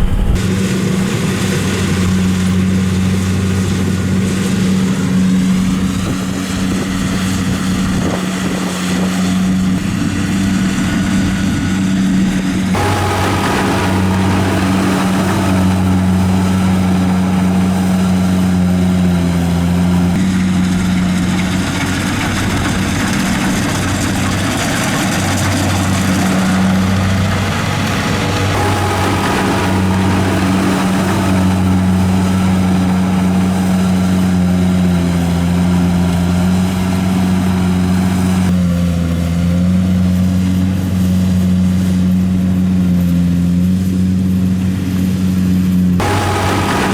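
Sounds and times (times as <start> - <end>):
harvester engine humming: 0.0 - 46.9.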